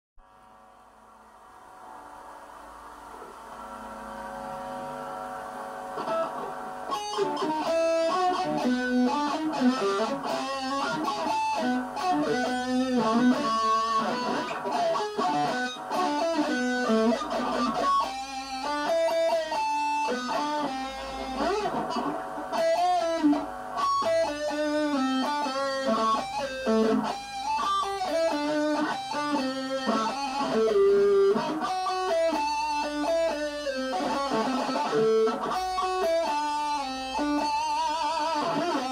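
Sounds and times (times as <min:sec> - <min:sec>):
electric guitar playing: 0:01.2 - 0:38.9.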